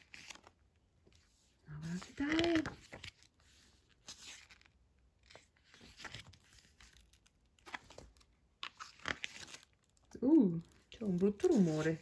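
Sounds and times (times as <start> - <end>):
pages turning: 0.0 - 12.0.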